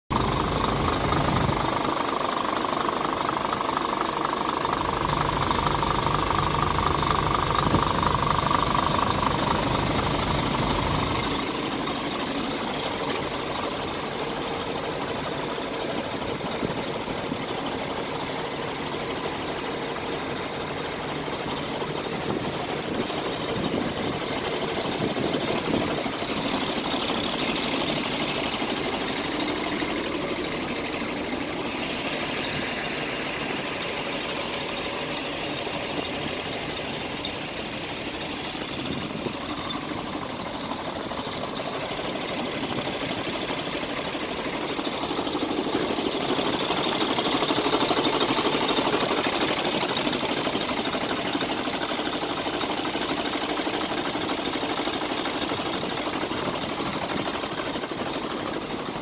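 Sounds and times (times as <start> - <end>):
diesel truck engine idling: 0.1 - 59.0.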